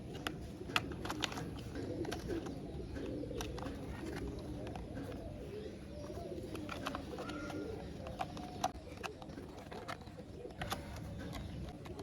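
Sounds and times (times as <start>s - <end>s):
plastic toy parts clicking: 0.0s - 5.1s, 6.5s - 12.0s
pigeons cooing: 0.0s - 12.0s.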